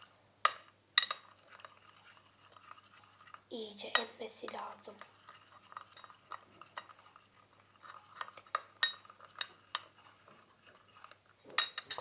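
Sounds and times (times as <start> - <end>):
spoon stirring slime in a bowl: 0.0 - 12.0.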